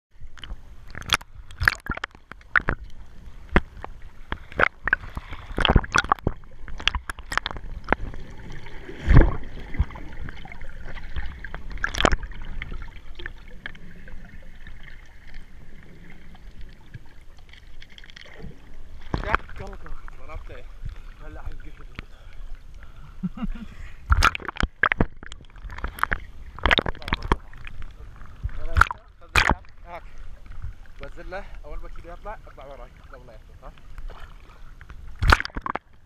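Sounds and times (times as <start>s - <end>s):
water sloshing and gurgling: 0.1s - 36.0s.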